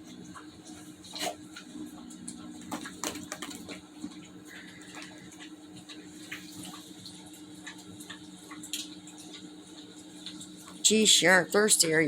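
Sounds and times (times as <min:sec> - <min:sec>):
dog lapping water: 0:00.0 - 0:11.0
steady low hum: 0:00.0 - 0:12.0.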